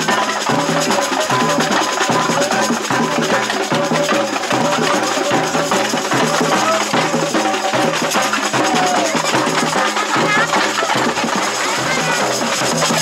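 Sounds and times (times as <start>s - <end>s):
samba percussion band: 0.0s - 13.0s.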